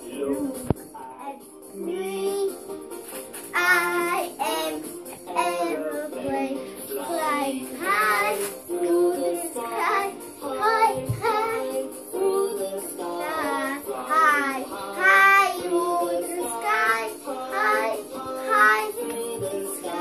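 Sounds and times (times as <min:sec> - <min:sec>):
young boy singing: 0:00.0 - 0:02.6, 0:03.5 - 0:20.0.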